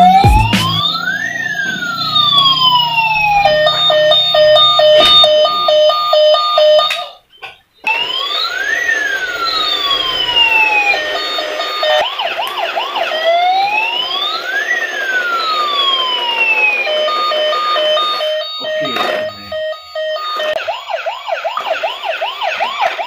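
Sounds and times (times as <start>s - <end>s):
toy siren wailing and yelping: 0.0s - 7.2s, 7.8s - 23.0s.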